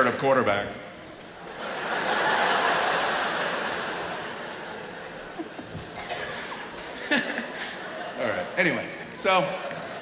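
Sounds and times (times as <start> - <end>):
audience laughing: 1.4 - 10.0.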